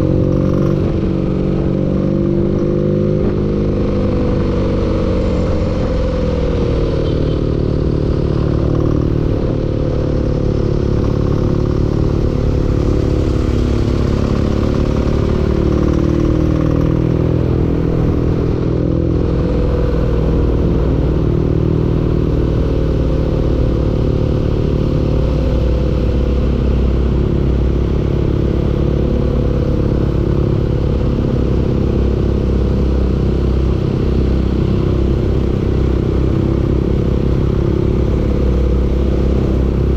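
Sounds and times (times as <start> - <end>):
engine running with knocking clatter: 0.0 - 39.9.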